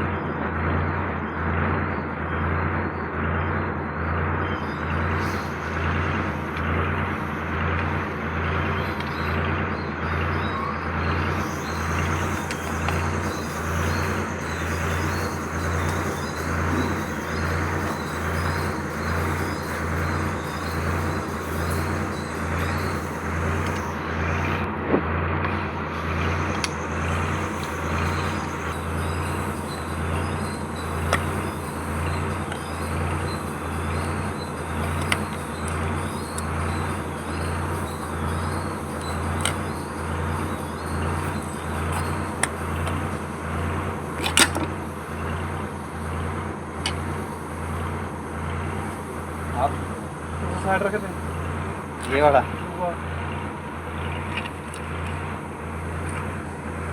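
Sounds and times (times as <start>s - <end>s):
machine humming with even pulses: 0.0s - 56.9s.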